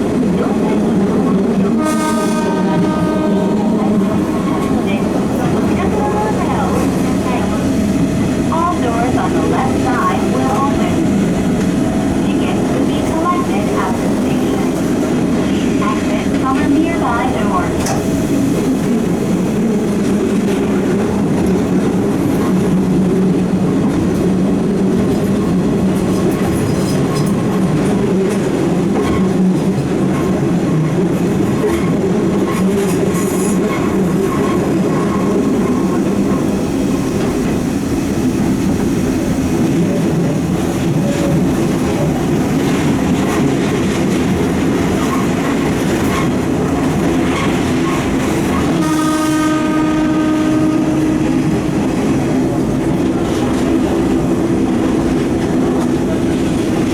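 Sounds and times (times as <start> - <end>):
train wheels rumbling: 0.0 - 56.9.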